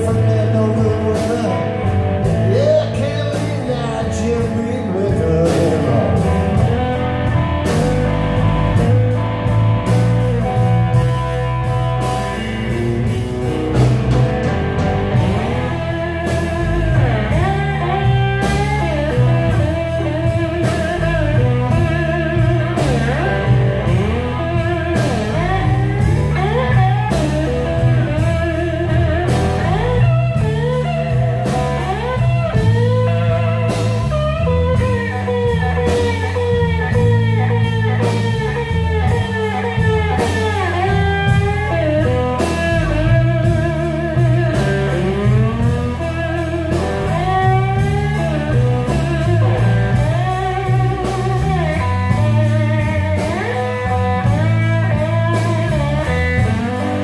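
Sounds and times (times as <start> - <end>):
bass guitar: 0.0 - 57.0
drums: 0.0 - 57.0
electric guitar solo: 0.0 - 57.0.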